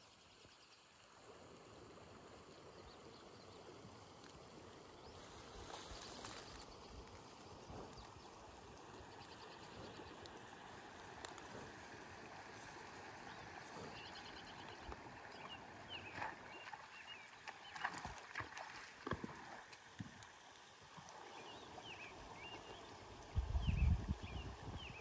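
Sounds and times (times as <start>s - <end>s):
horse hooves splashing through creek: 0.9s - 25.0s.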